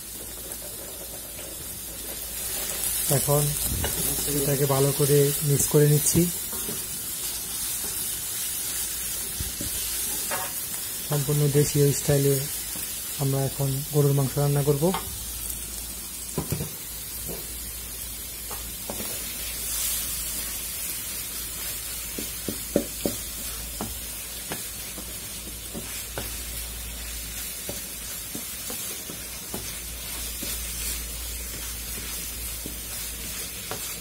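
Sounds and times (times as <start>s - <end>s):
food sizzling in oil: 0.0s - 34.0s.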